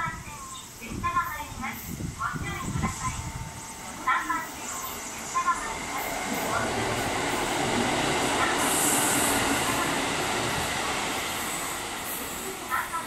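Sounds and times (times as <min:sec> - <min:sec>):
diesel railcar passing: 0:00.0 - 0:13.0.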